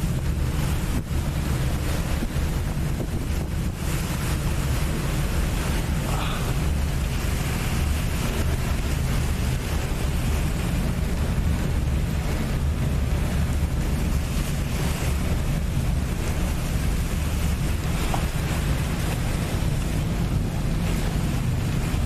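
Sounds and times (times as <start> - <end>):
boat engine rumble: 0.0 - 22.0
water noise: 0.0 - 22.0
wind on microphone: 0.0 - 22.0.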